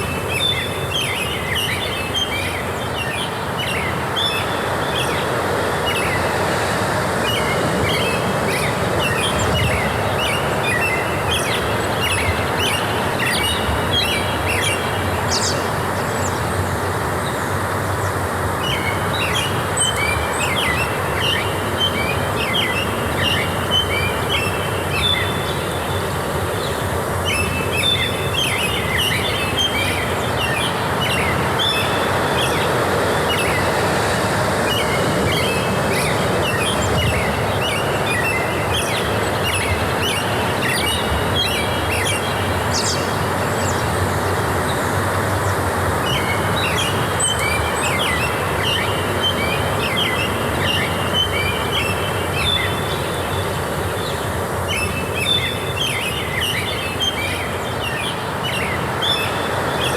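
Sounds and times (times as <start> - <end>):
songbirds chirping: 0.0 - 59.9
steady rushing background noise: 1.1 - 59.9.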